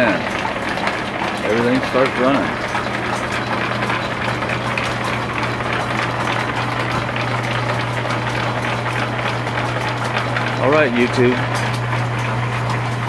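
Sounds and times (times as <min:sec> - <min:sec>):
belts pulleys and gears clatter: 0:00.0 - 0:13.0
drill press drive hum: 0:00.0 - 0:13.0.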